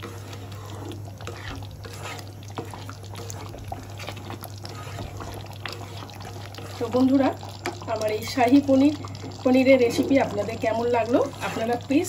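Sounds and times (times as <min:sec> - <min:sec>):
gravy bubbling in a pan: 0:00.0 - 0:12.0
spatula stirring gravy: 0:00.0 - 0:12.0.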